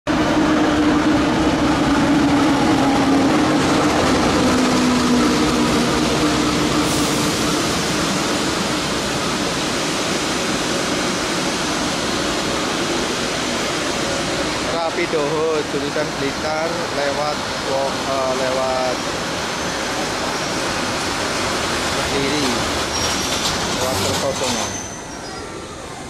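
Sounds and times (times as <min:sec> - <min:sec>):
passenger train rumbling: 0:00.1 - 0:26.0.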